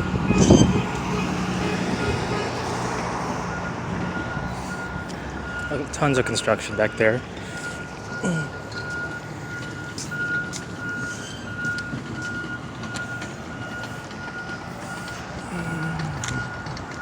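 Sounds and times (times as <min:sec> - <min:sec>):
reversing alarm beeping: 0:00.0 - 0:17.0
traffic and machinery rumble: 0:00.0 - 0:17.0.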